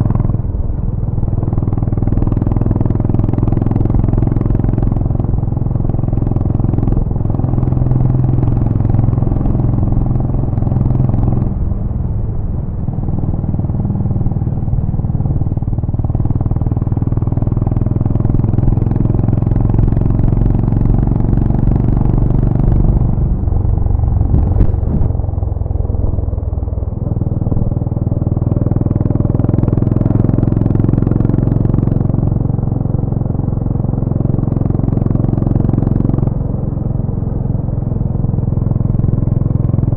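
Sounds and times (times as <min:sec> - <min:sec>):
motorcycle engine exhaust running: 0:00.0 - 0:39.9.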